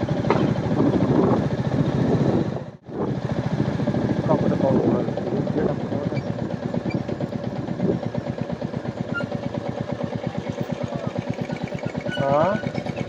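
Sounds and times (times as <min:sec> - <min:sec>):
motorcycle engine thumping: 0:00.0 - 0:01.5, 0:02.9 - 0:13.0.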